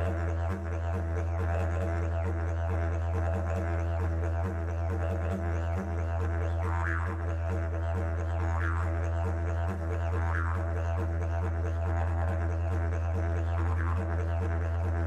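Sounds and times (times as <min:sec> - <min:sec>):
didgeridoo drone: 0:00.0 - 0:15.0.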